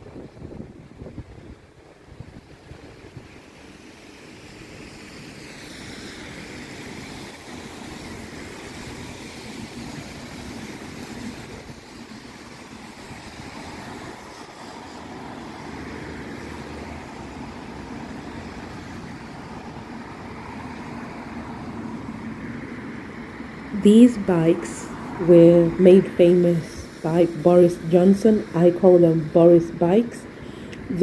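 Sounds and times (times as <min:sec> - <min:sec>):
cars and buses passing: 0:00.0 - 0:31.0
tyres hissing on wet road: 0:00.0 - 0:31.0.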